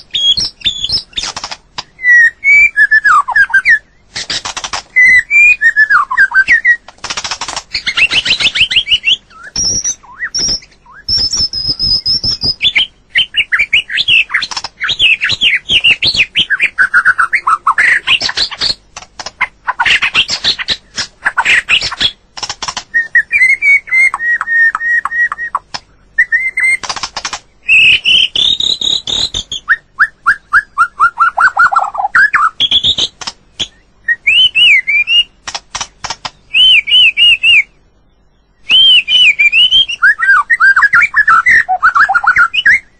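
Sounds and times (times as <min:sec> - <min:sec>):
sharp bird clicks: 0:00.0 - 0:02.0, 0:03.2 - 0:29.7, 0:31.4 - 0:37.6
bird singing whistles and trills: 0:00.0 - 0:06.9, 0:07.7 - 0:18.8, 0:22.9 - 0:27.0, 0:27.6 - 0:35.4, 0:36.3 - 0:42.9.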